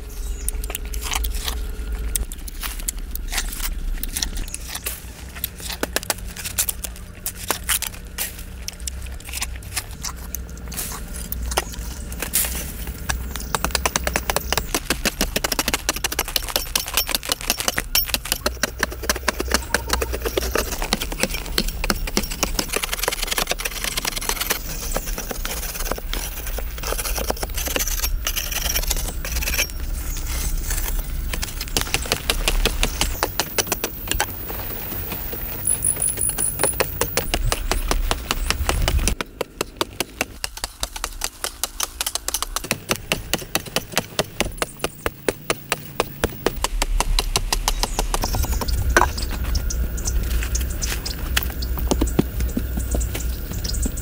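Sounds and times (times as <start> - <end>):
hand hoes chopping dry stony soil: 0.6 - 49.4, 50.4 - 54.0.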